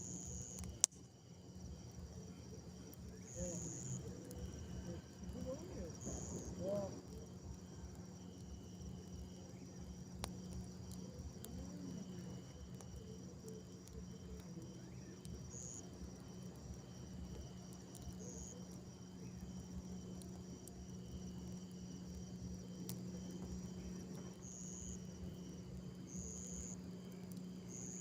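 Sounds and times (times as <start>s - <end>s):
crickets trilling: 0.0s - 28.0s
low steady hum: 0.0s - 28.0s
second insect trill: 0.0s - 28.0s.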